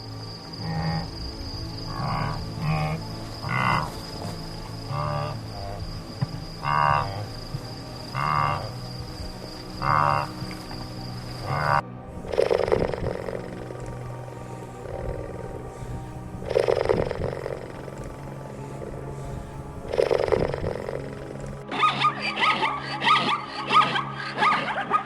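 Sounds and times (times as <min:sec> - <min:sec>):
high-pitched insect trill: 0:00.0 - 0:21.7
frog croaking: 0:00.0 - 0:25.0.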